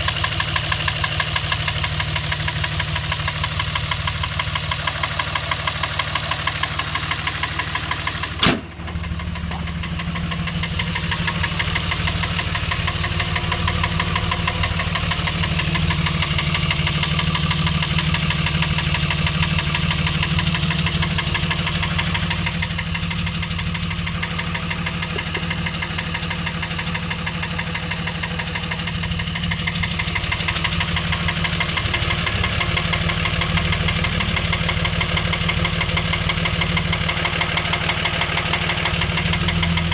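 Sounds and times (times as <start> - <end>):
engine running with knock: 0.0 - 39.9.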